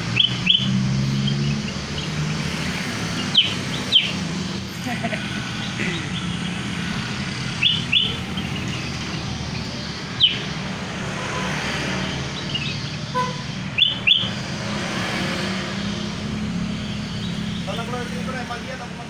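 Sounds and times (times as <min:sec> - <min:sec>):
bird chirping: 0:00.0 - 0:18.7.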